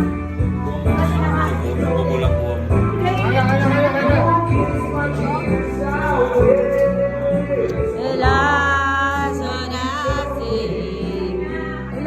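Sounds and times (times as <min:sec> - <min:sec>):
pop instrumental backing: 0:00.0 - 0:12.0.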